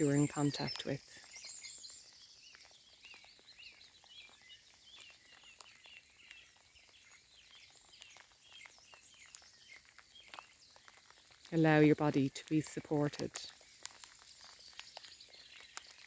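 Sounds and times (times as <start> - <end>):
rain patter: 0.0 - 16.0
small birds chirping: 0.0 - 16.0.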